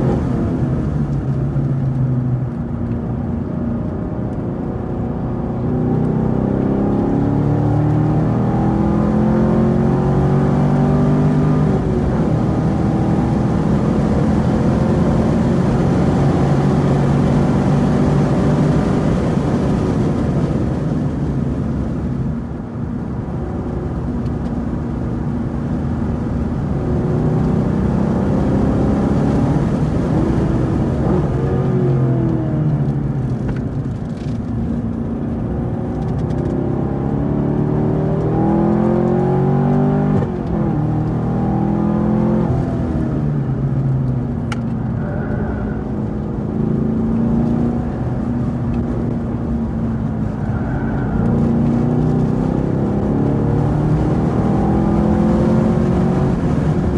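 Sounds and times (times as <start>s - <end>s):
car engine running hard: 0.0s - 56.9s.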